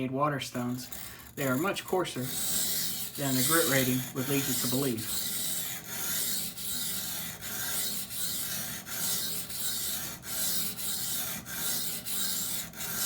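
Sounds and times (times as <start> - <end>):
knife scraping on a whetstone: 0.6 - 13.0.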